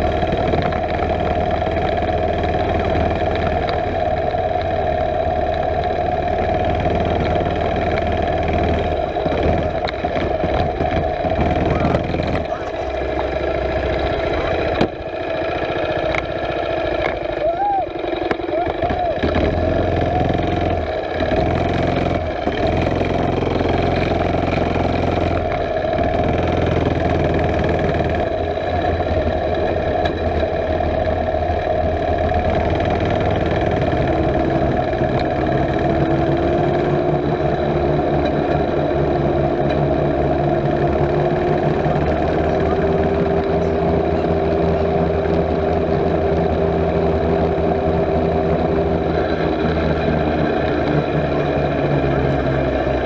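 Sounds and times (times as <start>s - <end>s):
small gasoline engine running: 0.0s - 53.0s.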